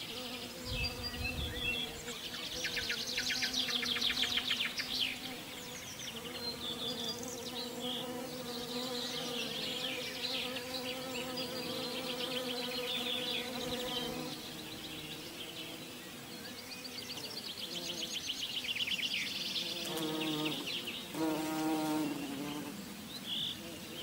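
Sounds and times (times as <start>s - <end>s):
flying insect buzzing: 0.0s - 18.6s, 19.5s - 24.0s
songbirds trilling: 0.0s - 24.0s.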